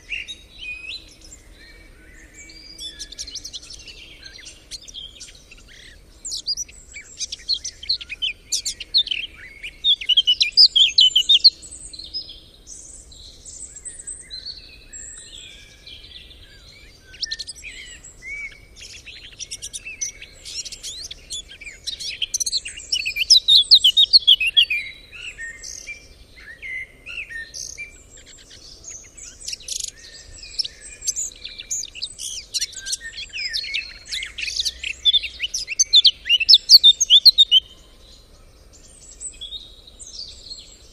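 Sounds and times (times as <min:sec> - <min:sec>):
songbirds chorus: 0:00.0 - 0:40.9.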